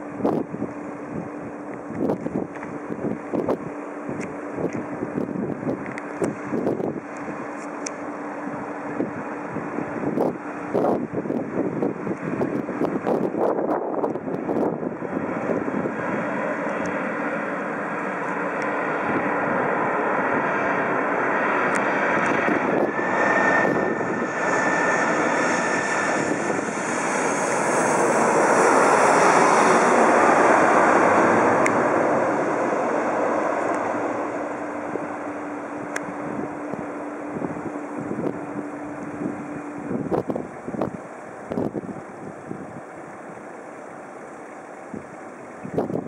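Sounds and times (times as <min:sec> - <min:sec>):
high engine whine: 0:00.0 - 0:46.0
jet airliner passing overhead: 0:00.0 - 0:46.0.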